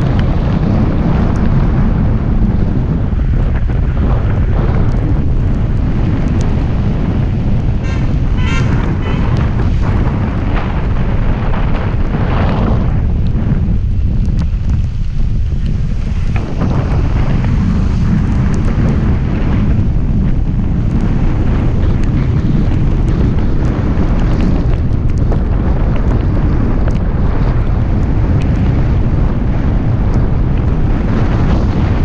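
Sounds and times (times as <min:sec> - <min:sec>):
raindrops ticking on camera: 0:00.0 - 0:32.0
wind buffeting microphone: 0:00.0 - 0:32.0.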